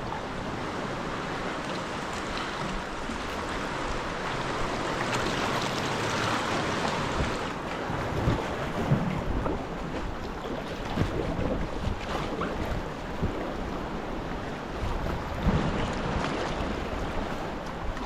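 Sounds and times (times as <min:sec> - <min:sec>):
water splashing around kayak: 0:00.0 - 0:18.0.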